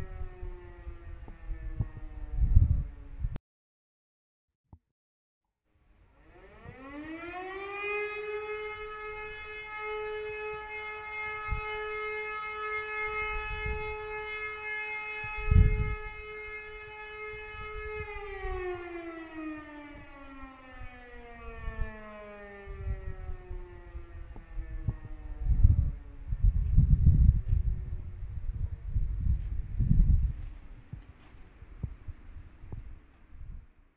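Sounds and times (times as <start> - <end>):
civil defence siren: 0.0 - 3.4, 5.7 - 33.9
wind buffeting microphone: 0.0 - 3.4, 8.2 - 33.9.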